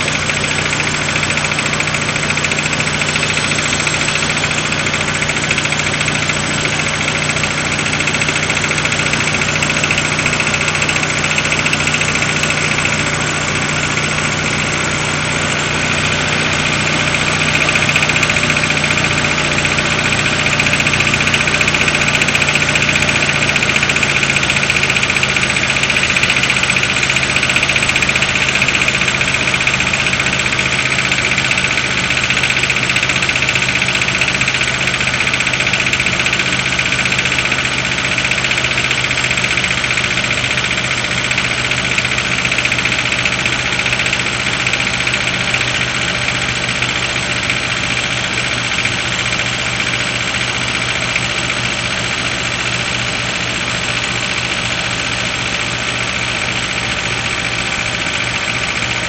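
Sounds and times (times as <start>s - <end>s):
car engine idling with a knock: 0.0s - 59.0s.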